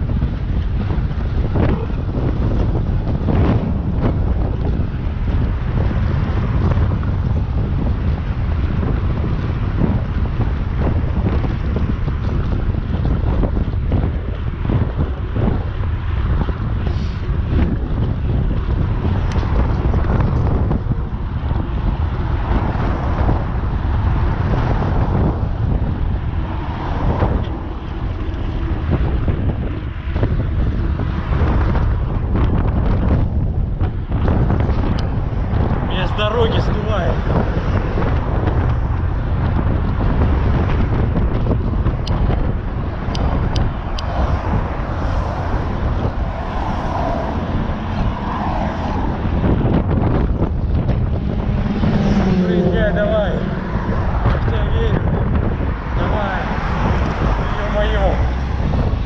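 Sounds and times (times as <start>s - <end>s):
strong wind buffeting microphone: 0.0s - 59.0s.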